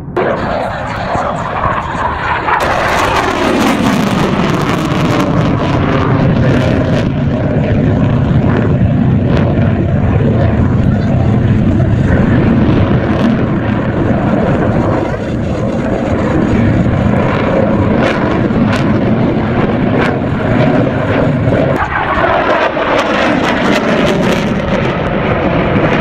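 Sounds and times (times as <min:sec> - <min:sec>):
airplane engine rumble: 0:00.0 - 0:26.0.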